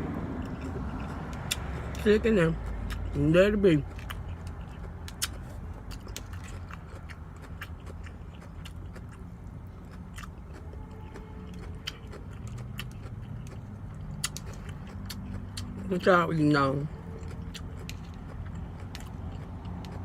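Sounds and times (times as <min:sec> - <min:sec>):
chewing and lip smacking: 0:00.1 - 0:20.0.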